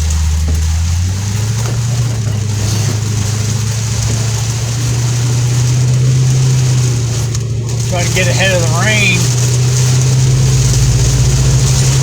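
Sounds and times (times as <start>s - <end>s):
engine and road drone: 0.0s - 12.0s
heavy rain: 0.0s - 12.0s
tyres hissing on wet road: 0.0s - 12.0s.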